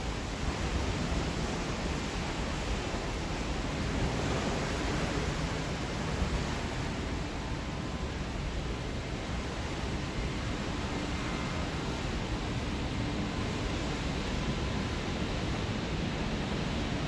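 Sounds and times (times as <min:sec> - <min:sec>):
low rumbling buffeting: 0:00.0 - 0:17.0
wind rushing across microphone: 0:00.0 - 0:17.0.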